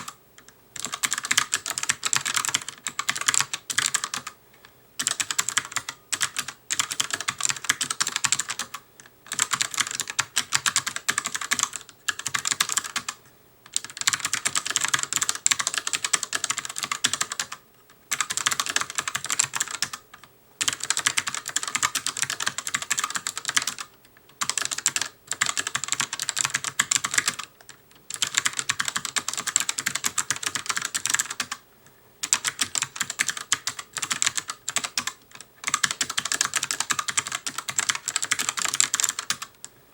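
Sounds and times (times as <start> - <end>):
mechanical keyboard typing: 0.0 - 4.4, 5.0 - 31.6, 32.2 - 39.7.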